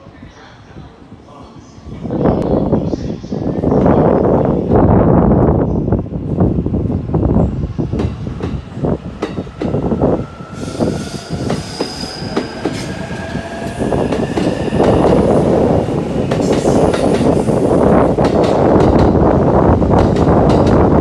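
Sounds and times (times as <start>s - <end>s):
rushing noise of passing train cars: 0.0s - 21.0s.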